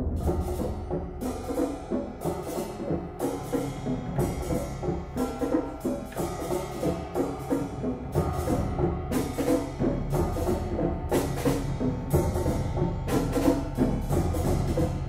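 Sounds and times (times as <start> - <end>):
drums playing: 0.0 - 15.0
mallet instrument notes: 0.3 - 15.0.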